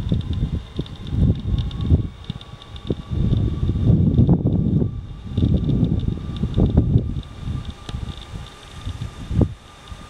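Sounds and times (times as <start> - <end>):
faint high whine: 0.0 - 10.0
jet engines rumbling: 0.0 - 10.0
wind buffeting microphone: 0.0 - 10.0.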